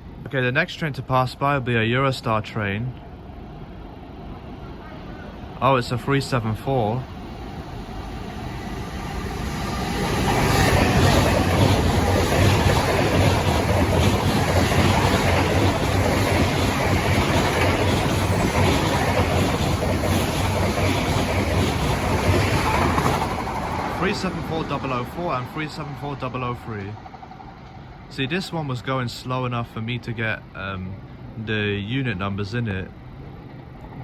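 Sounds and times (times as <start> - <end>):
electric train passing: 0.0 - 34.0.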